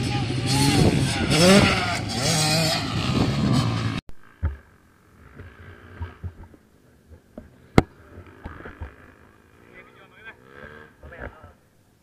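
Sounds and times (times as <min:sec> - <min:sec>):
dirt bike engine running: 0:00.0 - 0:11.6.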